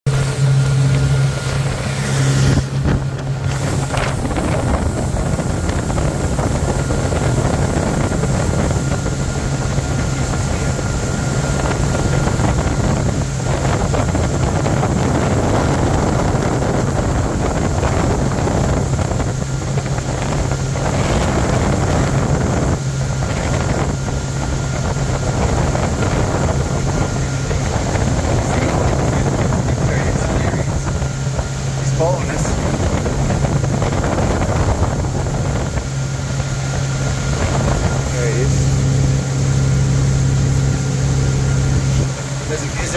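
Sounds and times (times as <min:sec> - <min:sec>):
motorboat engine running: 0:00.1 - 0:42.9
water rushing past hull: 0:00.1 - 0:42.9
wind on microphone: 0:00.1 - 0:42.9.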